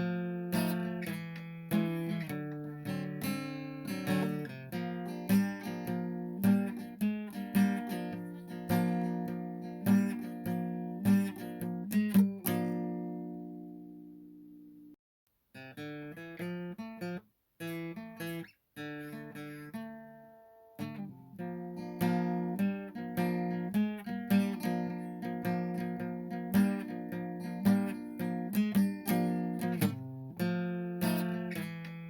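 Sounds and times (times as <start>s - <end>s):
acoustic guitar music: 0.0s - 15.0s, 15.6s - 32.0s.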